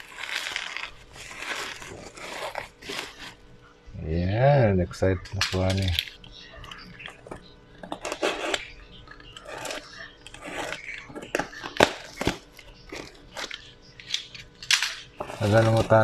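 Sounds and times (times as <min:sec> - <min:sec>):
bubble wrap crinkling: 0:00.0 - 0:03.7, 0:05.6 - 0:16.0.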